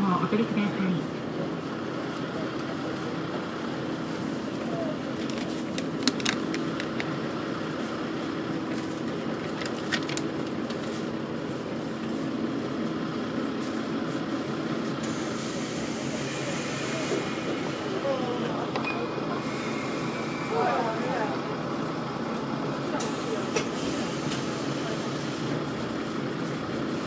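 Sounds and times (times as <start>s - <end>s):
diesel engine idling hum: 0.0s - 27.0s.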